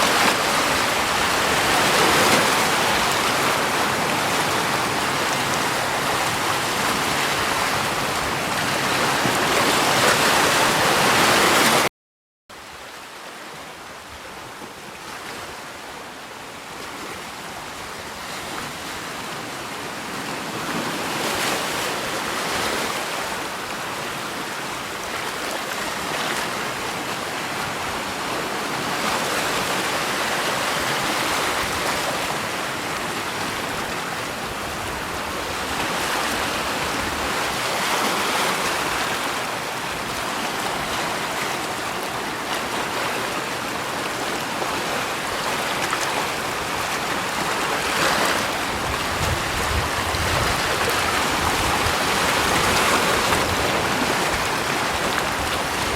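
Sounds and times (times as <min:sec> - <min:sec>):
rushing water: 0:00.0 - 0:11.9, 0:12.5 - 0:55.9.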